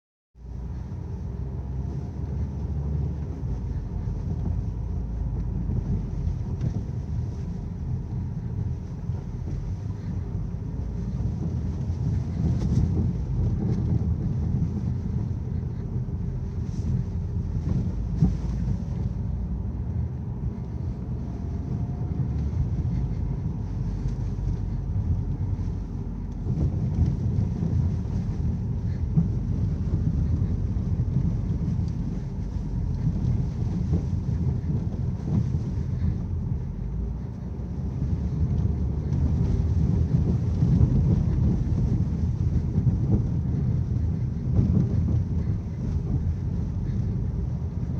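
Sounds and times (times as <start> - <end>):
low car rumble: 0.4 - 47.9.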